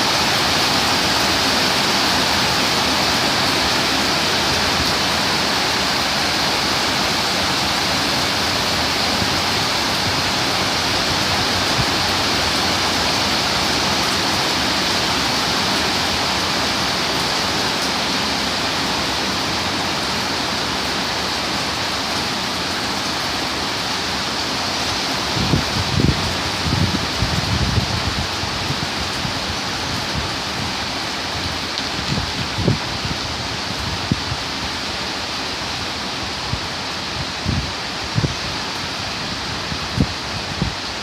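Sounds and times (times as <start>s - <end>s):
torrential rain pouring: 0.0s - 41.0s.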